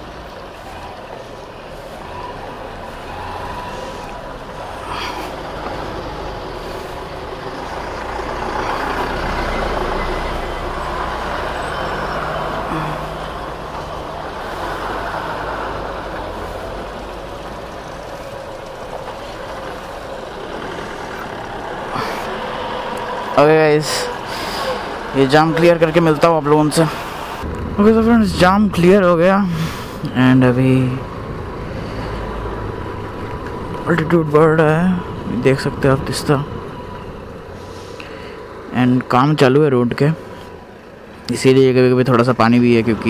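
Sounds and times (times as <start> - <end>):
motorcycle engine at low speed: 0.0 - 25.5, 26.4 - 39.3
trucks and cars running: 0.0 - 43.0.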